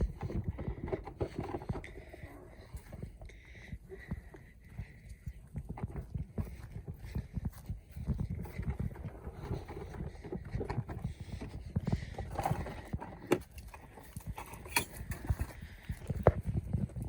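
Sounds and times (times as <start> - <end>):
small animals scampering: 0.0 - 17.0.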